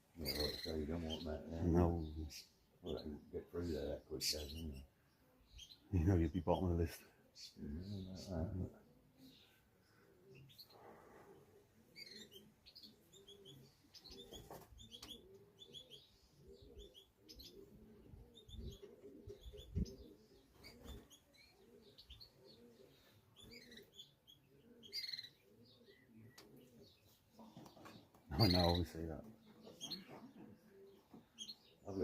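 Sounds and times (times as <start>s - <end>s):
pigeons cooing: 0.0s - 32.0s
small birds chirping: 0.0s - 32.0s.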